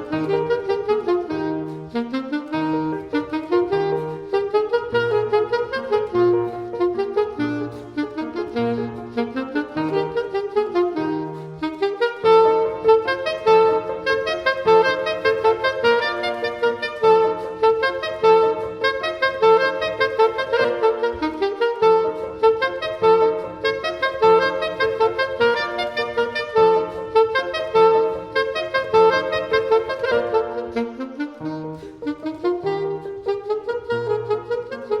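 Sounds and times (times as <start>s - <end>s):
classical saxophone melody: 0.0s - 35.0s
piano accompaniment: 0.0s - 35.0s.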